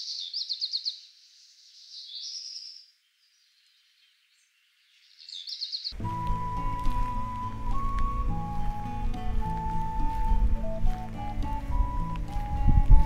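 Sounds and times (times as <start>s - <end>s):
bird singing high phrases: 0.0s - 13.0s.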